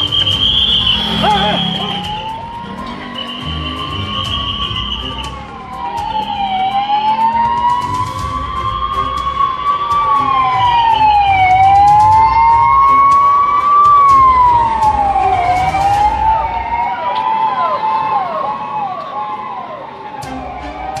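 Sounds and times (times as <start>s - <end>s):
vehicle engine rumbling: 0.0s - 17.1s
siren wailing: 0.0s - 21.0s
siren yelps: 0.0s - 21.0s.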